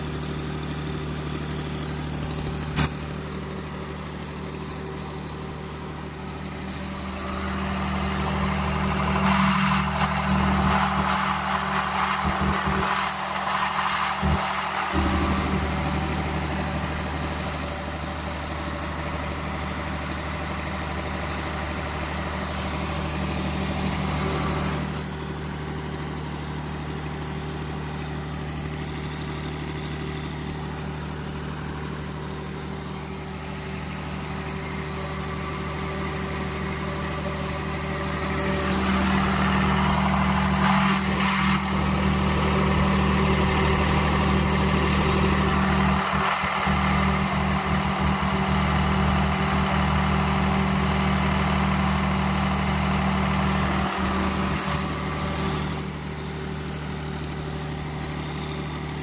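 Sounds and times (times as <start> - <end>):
diesel generator droning: 0.0 - 59.0.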